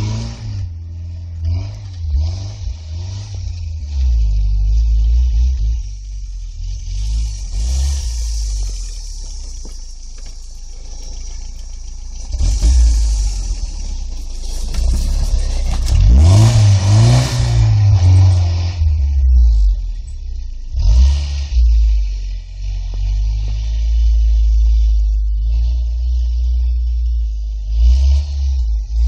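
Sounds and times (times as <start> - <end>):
pickup engine revving in snow: 0.0 - 29.0.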